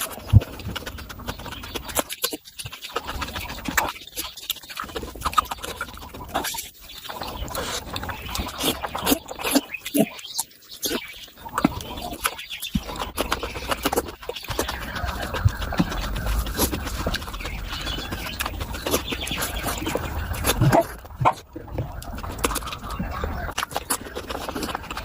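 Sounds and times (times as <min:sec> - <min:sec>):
chewing and lip smacking: 0:00.0 - 0:25.0.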